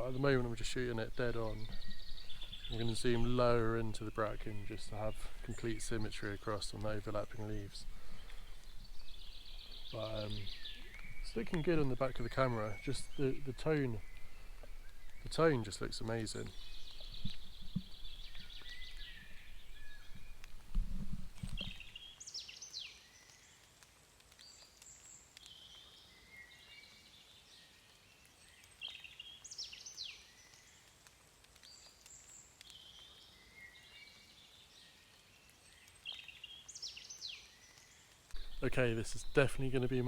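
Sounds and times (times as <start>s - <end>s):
songbird singing: 0.0s - 23.6s, 24.4s - 31.0s, 31.6s - 40.0s
faint steady hiss: 0.0s - 40.0s.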